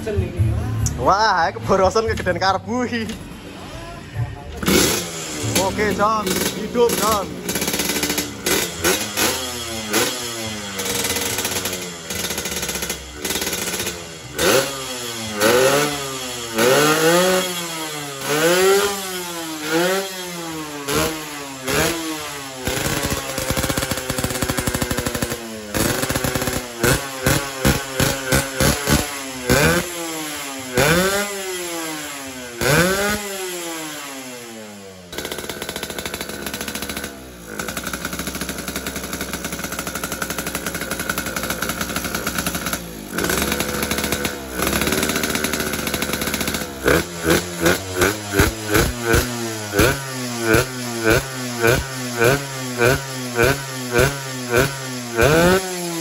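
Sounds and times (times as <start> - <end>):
motorcycle engine revving: 0.0 - 56.0
motorcycle engine idling: 1.8 - 56.0.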